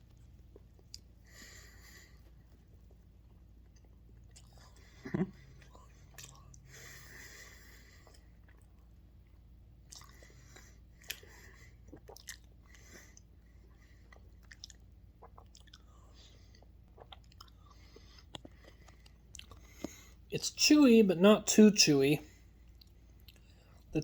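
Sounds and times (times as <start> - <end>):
faint chewing: 0.0 - 20.4, 22.3 - 23.9.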